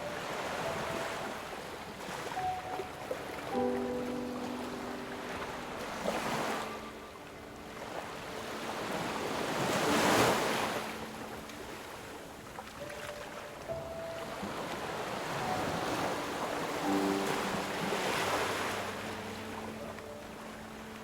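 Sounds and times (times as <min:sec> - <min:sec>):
faint soft music notes: 0:00.0 - 0:21.0
ocean waves breaking on shore: 0:00.0 - 0:21.0.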